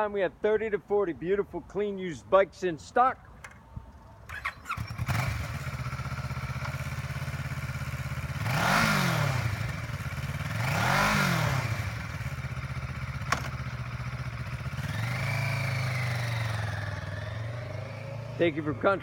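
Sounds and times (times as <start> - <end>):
motorcycle engine idling and revving: 3.4 - 19.0.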